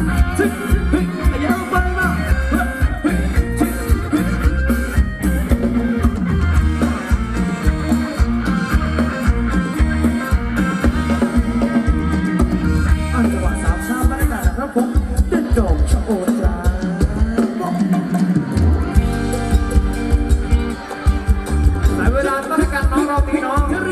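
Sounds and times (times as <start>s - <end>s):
live band playing dance music: 0.0s - 23.9s.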